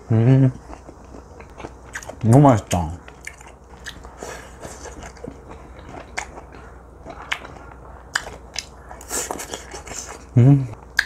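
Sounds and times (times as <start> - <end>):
close chewing: 0.5 - 11.0.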